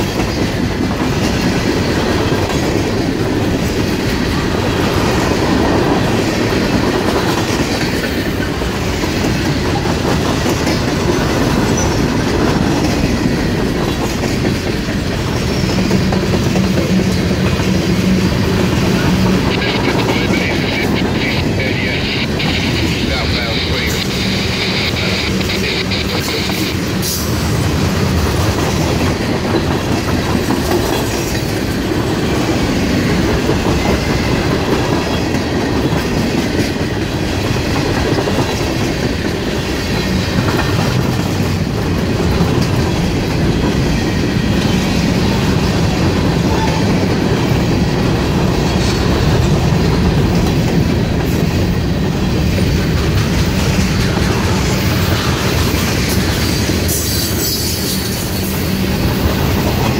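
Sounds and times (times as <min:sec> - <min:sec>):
wheels clacking over rail joints: 0:00.0 - 0:20.2, 0:26.4 - 0:59.9
freight train cars rolling past: 0:00.0 - 0:59.9.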